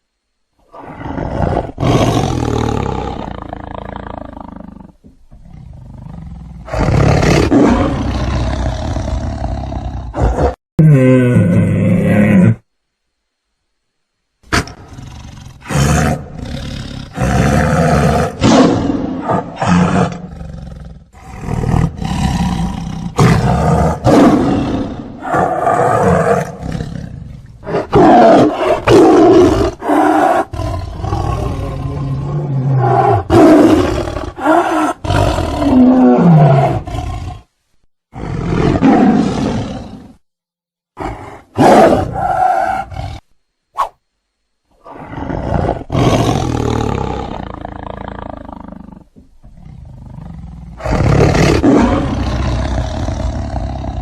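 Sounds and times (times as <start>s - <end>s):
large animal roaring: 0.7s - 12.6s, 14.7s - 37.4s, 44.8s - 54.0s.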